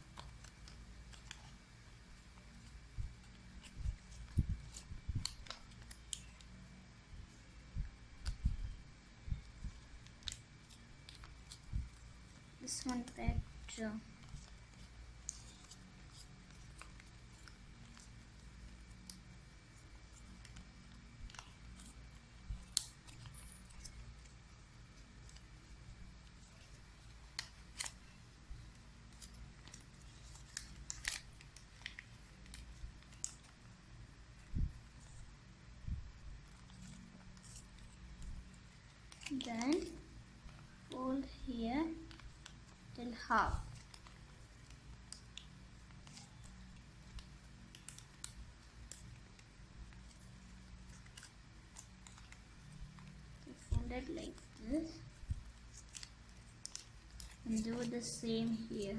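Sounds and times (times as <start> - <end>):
paper folding and creasing: 0.0 - 6.6, 9.6 - 35.4, 36.2 - 58.8
low room hum: 0.0 - 58.9.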